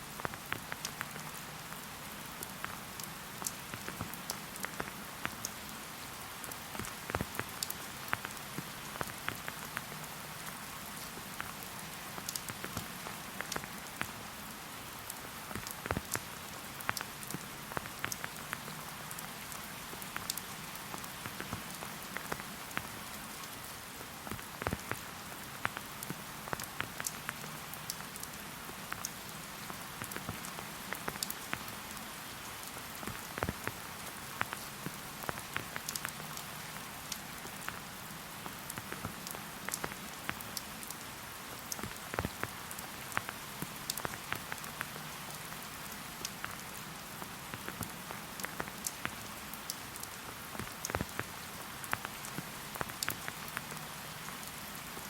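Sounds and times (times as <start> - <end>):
raindrops pattering close by: 0.0 - 55.0
steady rain hiss: 0.0 - 55.0.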